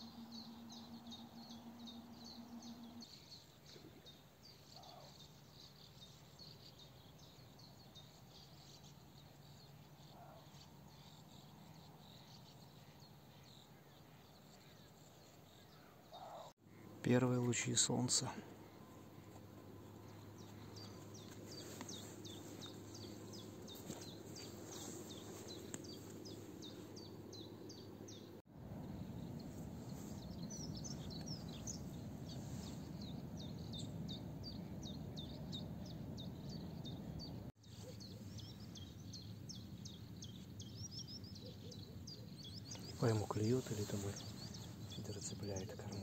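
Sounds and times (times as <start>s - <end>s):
low outdoor noise: 0.0s - 46.0s
small songbirds chirping: 0.0s - 46.0s.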